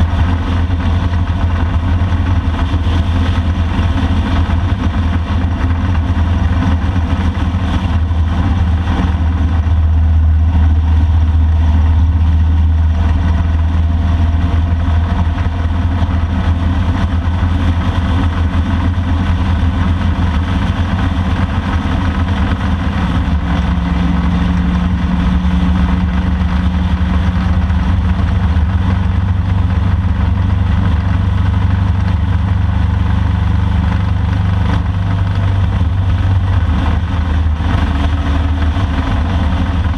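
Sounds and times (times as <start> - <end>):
motorcycle engine droning: 0.0 - 39.9
road and wind noise: 0.0 - 39.9.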